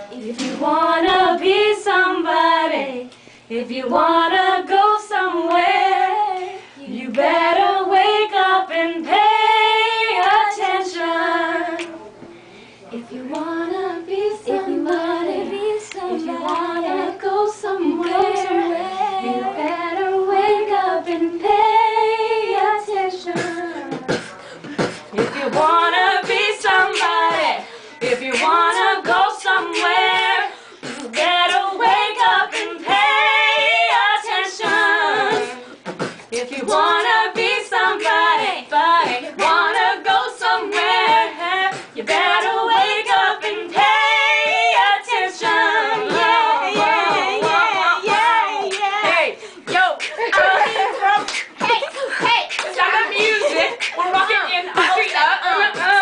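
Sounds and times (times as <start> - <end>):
women singing a cappella: 0.0 - 12.3, 12.9 - 56.0.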